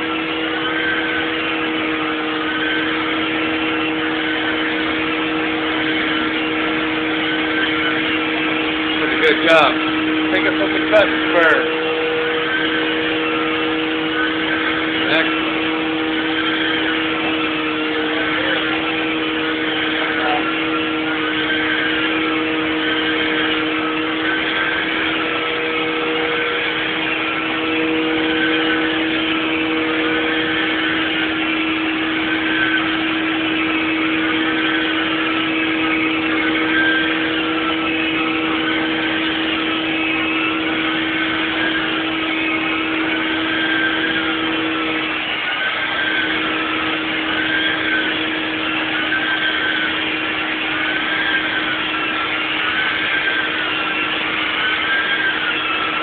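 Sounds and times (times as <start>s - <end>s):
carpet cleaning machine running: 0.0s - 56.0s.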